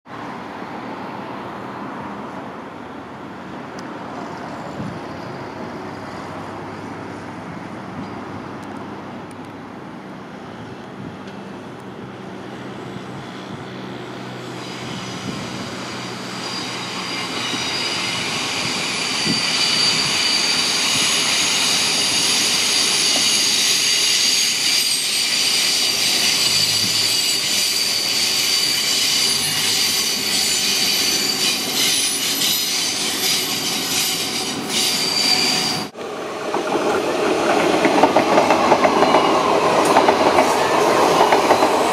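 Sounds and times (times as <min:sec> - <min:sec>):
train rumbling: 0:03.4 - 0:41.9
wheels squealing on rails: 0:04.0 - 0:08.5, 0:12.4 - 0:41.9.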